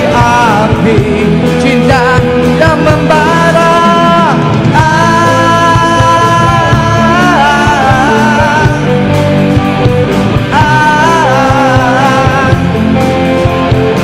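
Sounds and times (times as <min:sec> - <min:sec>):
man singing long lines: 0:00.0 - 0:09.2, 0:10.4 - 0:13.0
live rock band: 0:00.0 - 0:14.0.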